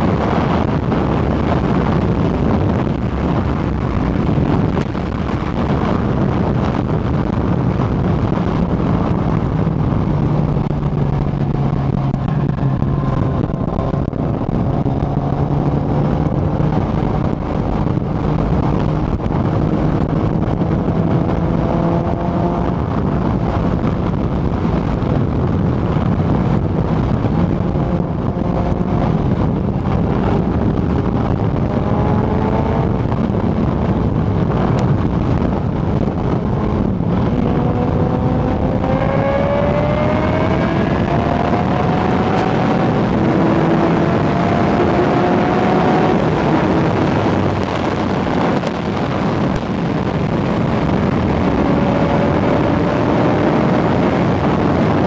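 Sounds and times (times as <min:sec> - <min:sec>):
motorcycle engine at speed: 0:00.0 - 0:55.0
wind rush on microphone: 0:00.0 - 0:55.0.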